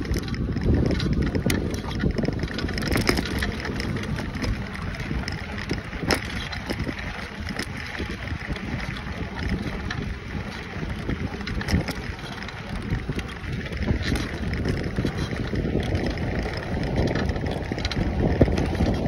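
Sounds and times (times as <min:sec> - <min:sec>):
bike tyre rolling on dirt: 0:00.0 - 0:19.0
gravel clicks and crunches: 0:00.0 - 0:19.0
wind buffeting microphone: 0:00.0 - 0:19.0.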